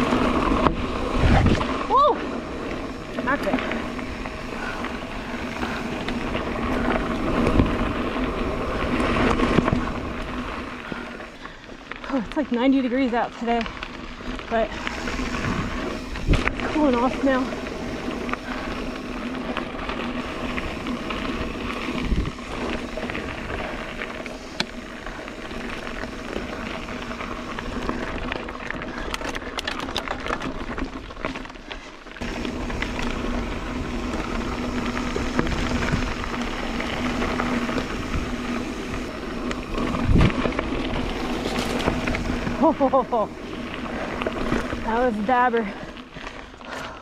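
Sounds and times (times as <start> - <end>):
bike rattling: 0.0 - 47.0
bike tyre rumble on dirt: 0.0 - 47.0.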